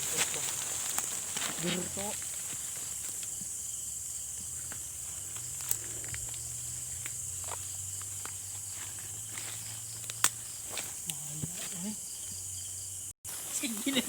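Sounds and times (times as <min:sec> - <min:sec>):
night insects chorus: 0:00.0 - 0:14.0.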